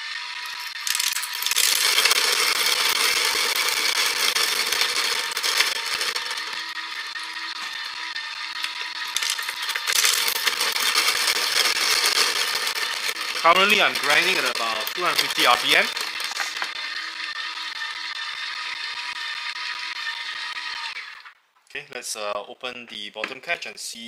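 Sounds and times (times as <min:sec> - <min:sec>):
coffee grinder crunching beans: 0:00.0 - 0:21.4
motor humming: 0:00.0 - 0:21.4.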